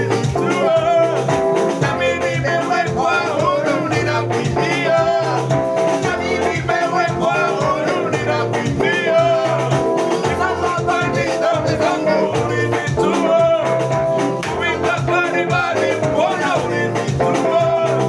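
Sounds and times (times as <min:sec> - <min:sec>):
person singing: 0:00.0 - 0:18.0
upbeat gospel music: 0:00.0 - 0:18.0.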